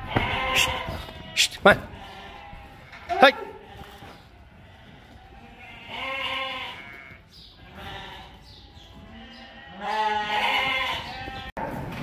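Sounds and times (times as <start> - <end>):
lambs bleating: 0.0 - 11.5.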